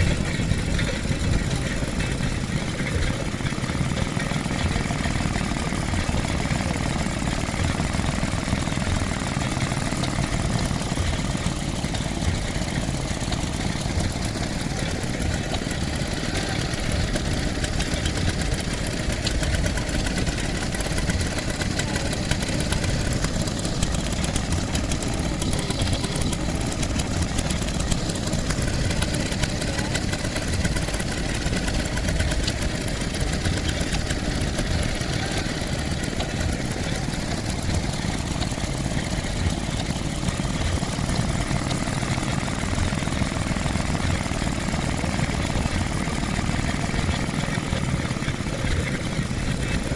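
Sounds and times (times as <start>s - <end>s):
petrol engine idling: 0.0s - 49.9s.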